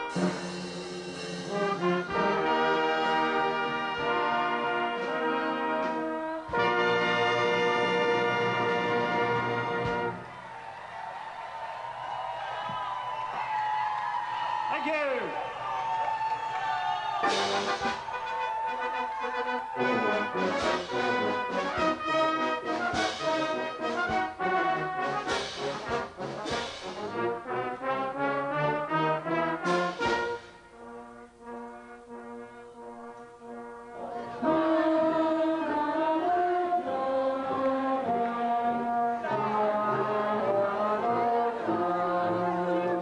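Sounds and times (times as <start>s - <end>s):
brass band playing: 0.0s - 14.6s, 15.6s - 43.0s.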